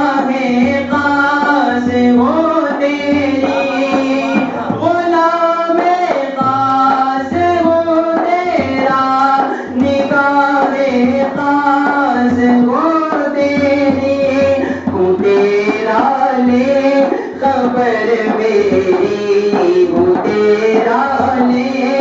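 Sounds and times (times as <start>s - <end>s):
hand drum beat: 0.0s - 22.0s
man singing: 0.0s - 22.0s.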